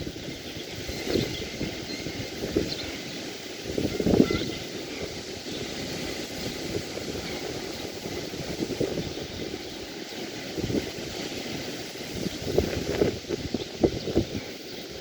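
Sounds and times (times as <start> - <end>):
surf rushing: 0.0 - 15.0
wind: 0.0 - 15.0
wind buffeting microphone: 0.0 - 15.0.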